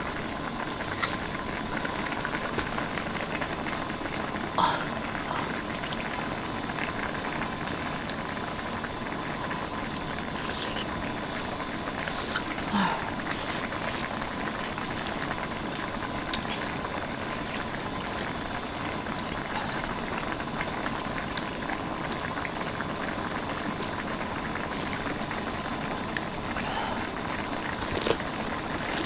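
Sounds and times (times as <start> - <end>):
liquid boiling in a pot: 0.0 - 29.0.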